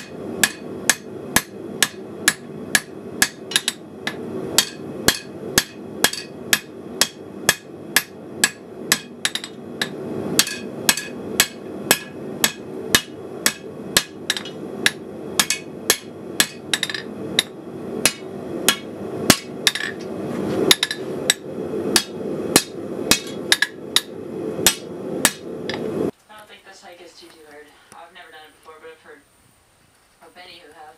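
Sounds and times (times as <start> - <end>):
hammer striking steel on anvil: 0.0 - 25.9
steady low rush: 0.0 - 29.4.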